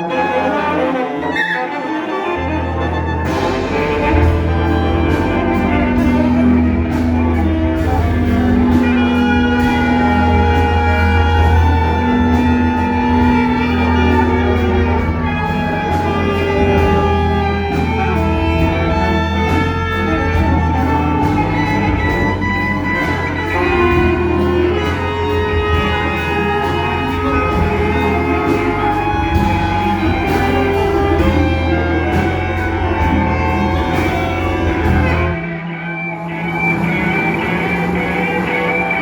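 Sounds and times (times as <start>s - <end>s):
ensemble long held notes: 0.0s - 39.0s
steady low drone: 0.0s - 39.0s.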